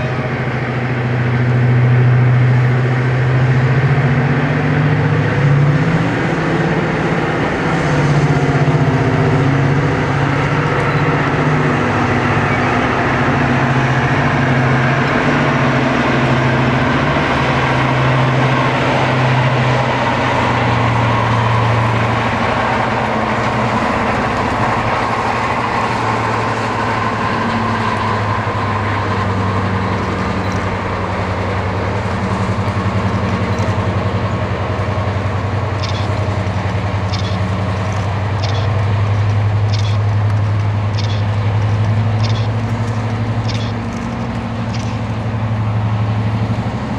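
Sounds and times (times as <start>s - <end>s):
locomotive engine running: 0.0s - 46.9s.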